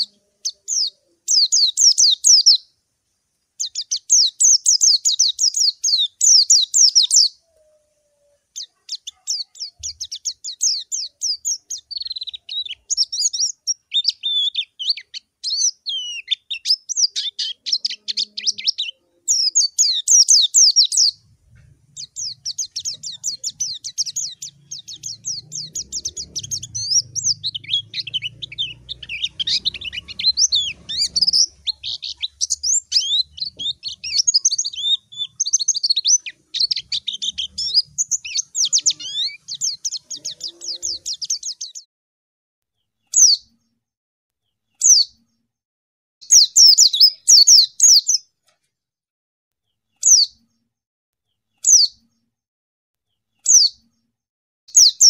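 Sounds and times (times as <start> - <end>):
bird twittering song: 0.0 - 2.7, 3.6 - 41.9, 42.8 - 43.8, 44.4 - 45.5, 46.2 - 48.3, 49.6 - 52.3, 53.1 - 54.1, 54.7 - 55.0.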